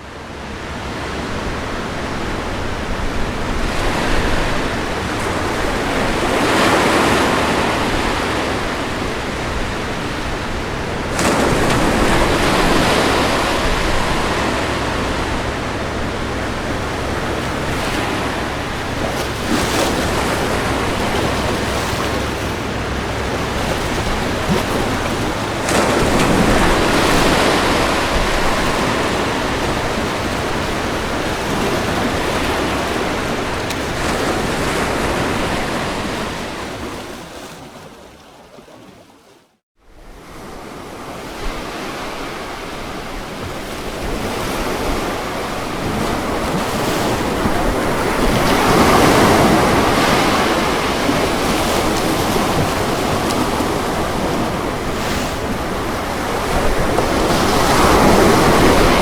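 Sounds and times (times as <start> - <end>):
ocean waves crashing on beach: 0.0 - 38.2, 39.9 - 59.0.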